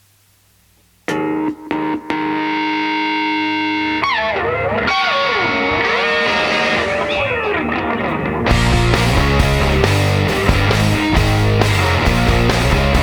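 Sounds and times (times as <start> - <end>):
distorted electric guitar: 1.1 - 13.0.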